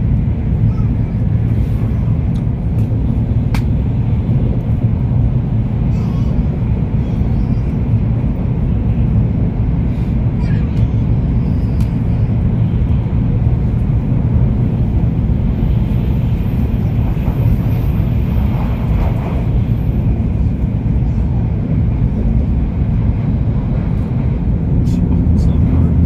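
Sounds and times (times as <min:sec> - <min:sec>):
train rumbling at speed: 0:00.0 - 0:26.0.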